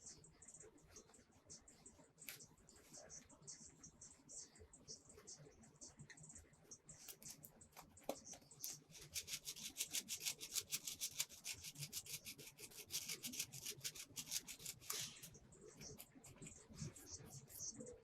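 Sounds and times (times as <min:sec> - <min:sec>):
rapid rhythmic scratching: 0:00.0 - 0:18.0.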